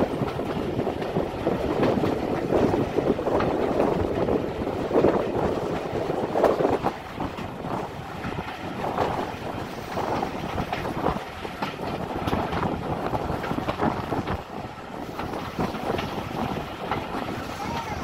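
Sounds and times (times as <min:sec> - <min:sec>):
train carriages rumbling and clattering: 0:00.0 - 0:18.0
wind buffeting microphone: 0:00.0 - 0:18.0.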